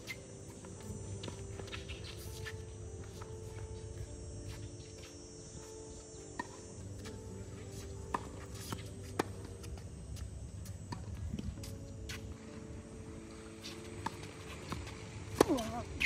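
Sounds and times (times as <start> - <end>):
background hum: 0.0 - 16.0
faint high insect buzz: 0.0 - 16.0.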